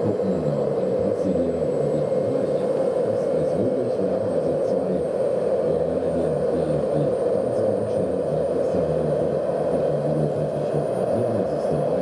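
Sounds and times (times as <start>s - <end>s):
high turbine whine: 0.0s - 12.0s
model turbine drone: 0.0s - 12.0s.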